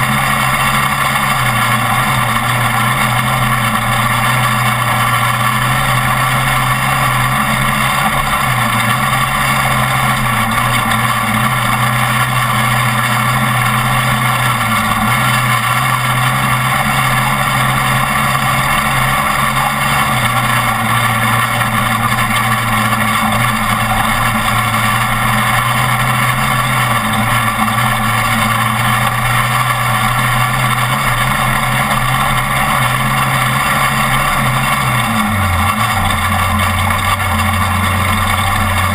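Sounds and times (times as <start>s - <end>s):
road and wind noise: 0.0s - 38.9s
truck engine running hard: 0.0s - 38.9s.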